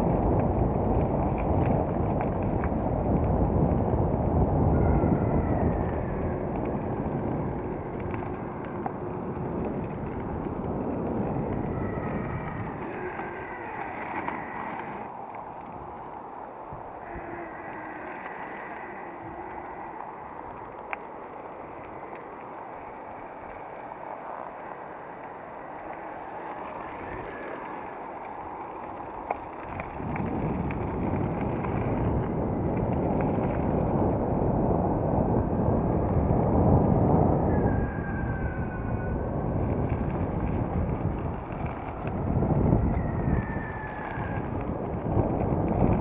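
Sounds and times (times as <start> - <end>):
longboard tyres rolling on gravel: 0.0 - 46.0
wind buffeting microphone: 0.0 - 46.0.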